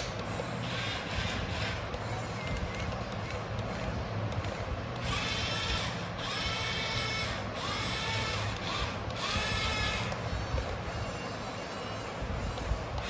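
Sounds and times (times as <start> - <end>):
electric motor and gears whining: 0.0 - 13.0.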